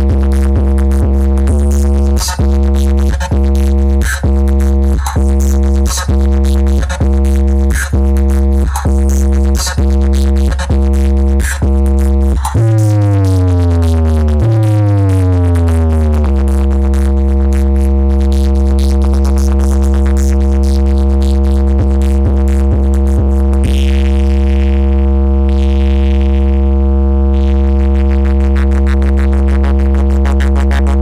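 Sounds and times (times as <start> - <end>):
deep bass sweeps and tone: 0.0 - 31.0.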